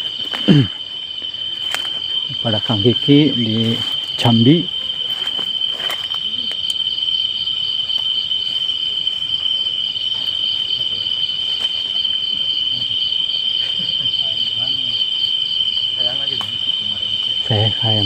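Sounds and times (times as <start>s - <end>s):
insect pulsing trill: 0.0s - 18.0s
insects droning: 0.0s - 18.0s.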